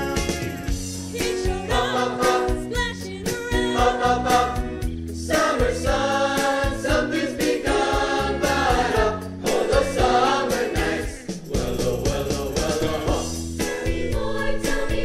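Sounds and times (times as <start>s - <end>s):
pop song with group vocals: 0.0s - 15.0s.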